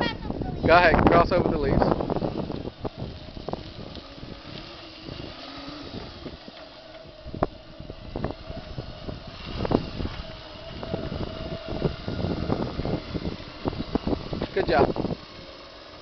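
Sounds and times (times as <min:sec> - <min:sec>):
electric motor whine: 0:00.3 - 0:16.0
tractor rolling over leaves: 0:00.8 - 0:16.0.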